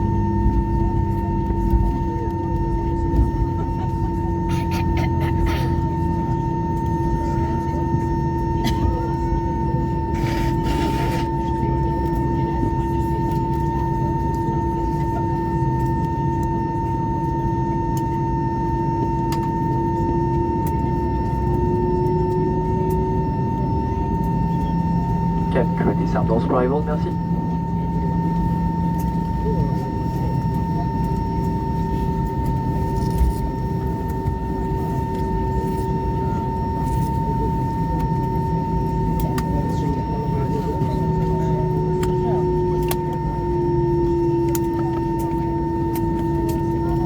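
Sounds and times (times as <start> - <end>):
jet engines idling in cabin: 0.0 - 47.0
steady high whine: 0.0 - 47.0.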